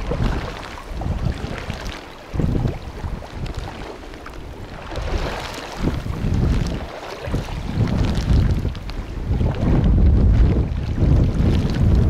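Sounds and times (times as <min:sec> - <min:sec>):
water splashing and sloshing: 0:00.0 - 0:12.0
wind gusting on microphone: 0:00.0 - 0:12.0.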